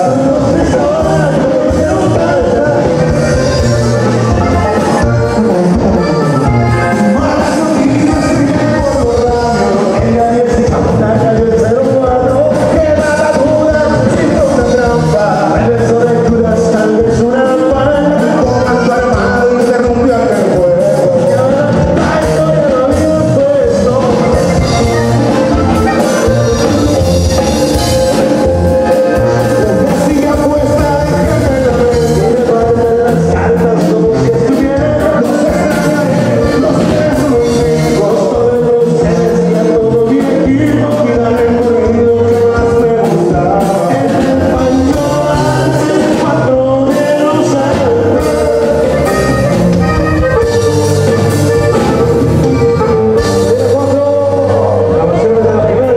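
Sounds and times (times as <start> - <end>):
button accordion: 0.0 - 55.9
drums: 0.0 - 55.9
guitar: 0.0 - 55.9
man singing: 0.0 - 55.9.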